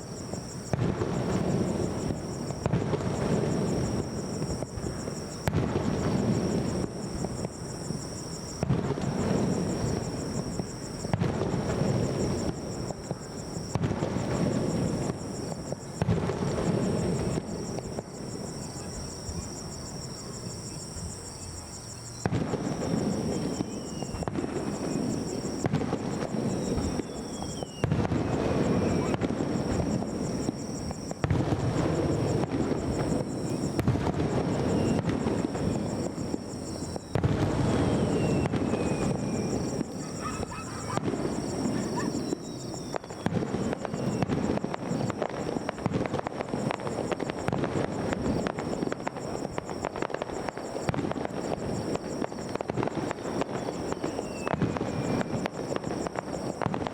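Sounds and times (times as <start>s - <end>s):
firework crackling: 0.0s - 21.5s, 22.2s - 56.9s
firework booms: 0.0s - 21.6s, 22.2s - 56.9s.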